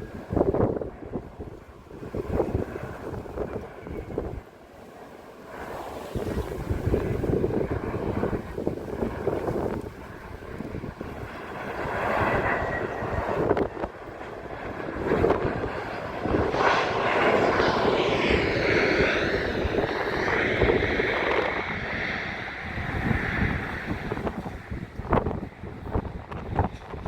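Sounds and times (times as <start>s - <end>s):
wind buffeting microphone: 0.0s - 4.5s, 5.5s - 27.0s
jet airliner passing: 0.0s - 27.0s.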